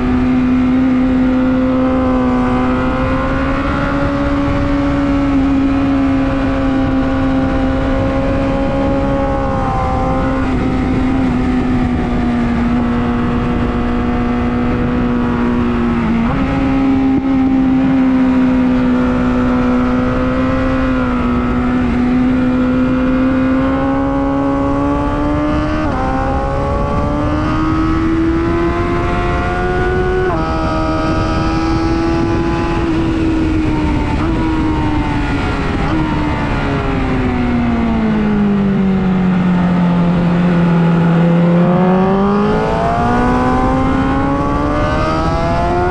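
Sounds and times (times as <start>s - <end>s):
heavy wind noise: 0.0s - 45.9s
motorcycle engine at high revs: 0.0s - 45.9s.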